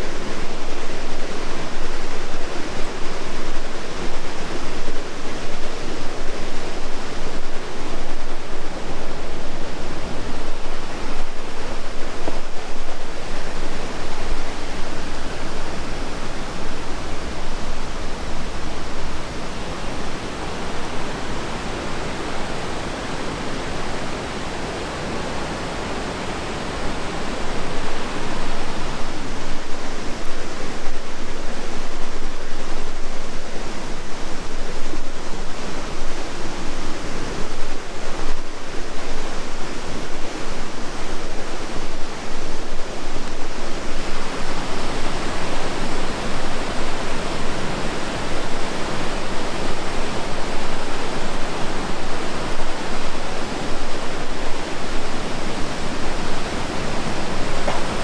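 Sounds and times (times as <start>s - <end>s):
rushing river whitewater: 0.0s - 58.0s.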